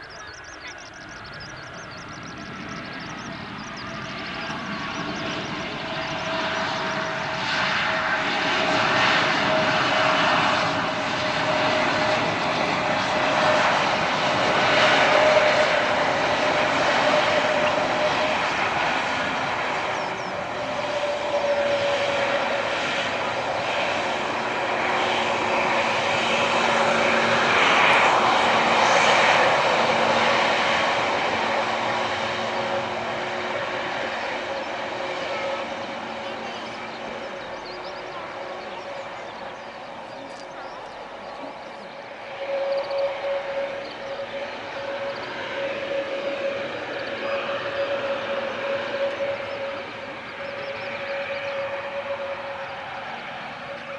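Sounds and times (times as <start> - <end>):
jet engine whine: 0.0 - 53.9.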